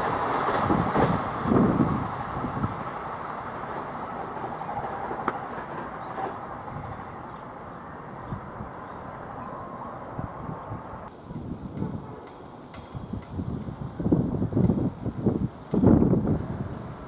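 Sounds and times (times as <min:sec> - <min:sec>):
train rail rumble: 0:00.0 - 0:17.0.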